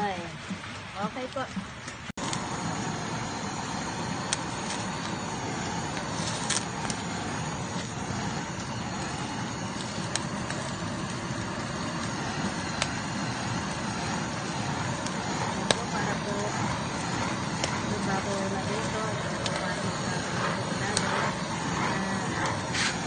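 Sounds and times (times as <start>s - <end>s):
torch flame hissing: 2.1s - 23.0s.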